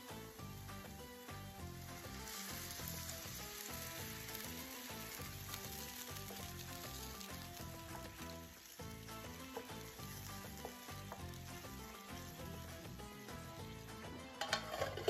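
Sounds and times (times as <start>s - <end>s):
background music: 0.0s - 15.0s
syrup sizzling in hot oil: 0.0s - 15.0s.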